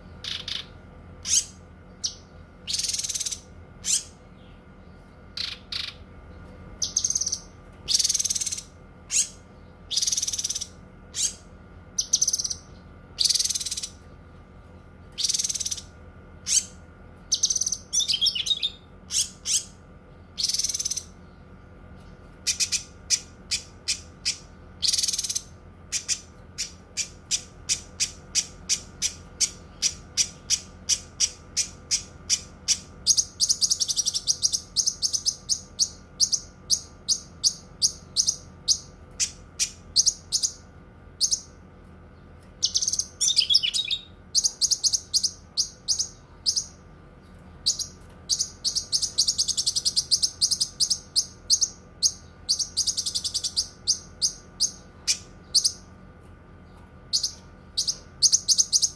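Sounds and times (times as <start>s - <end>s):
songbird chip notes and trills: 0.0s - 14.2s, 14.8s - 56.0s, 56.6s - 58.9s.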